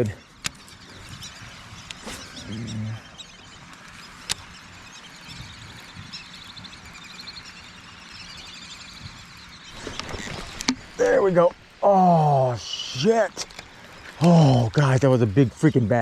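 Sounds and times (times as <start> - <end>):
low hum: 0.0 - 16.0
small birds chirping: 0.0 - 16.0.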